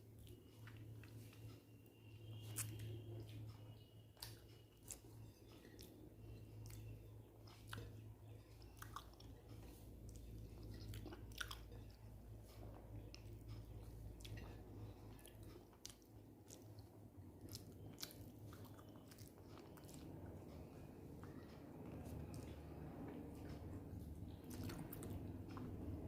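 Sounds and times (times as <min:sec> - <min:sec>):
chewing food: 0:00.0 - 0:26.0.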